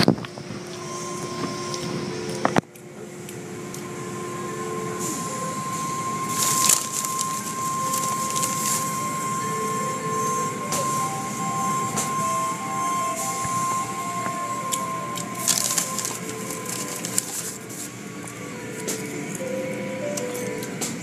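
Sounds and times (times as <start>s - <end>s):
constant high whine: 0.0s - 21.0s
machine rumble: 0.0s - 21.0s.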